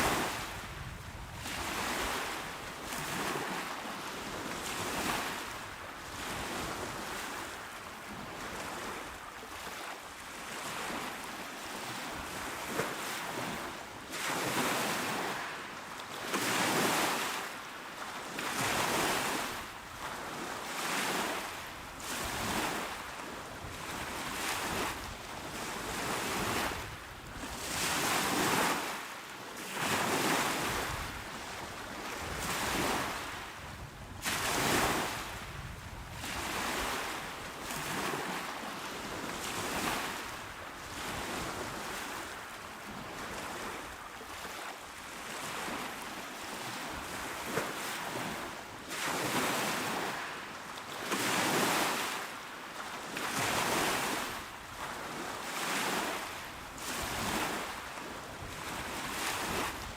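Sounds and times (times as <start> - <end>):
small ocean waves breaking: 0.0 - 59.9.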